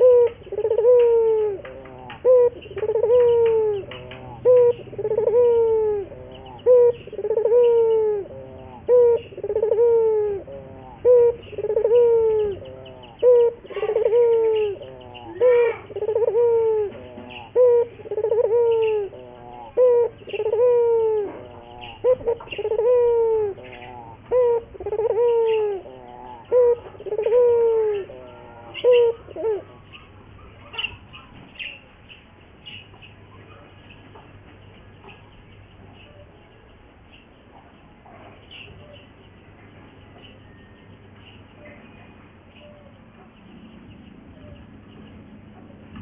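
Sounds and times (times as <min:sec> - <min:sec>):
dove cooing: 0:00.0 - 0:31.9, 0:37.4 - 0:46.0.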